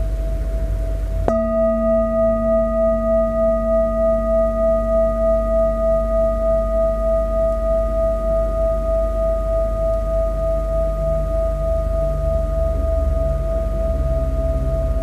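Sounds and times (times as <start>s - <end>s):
metal singing bowl ringing: 0.0s - 15.0s.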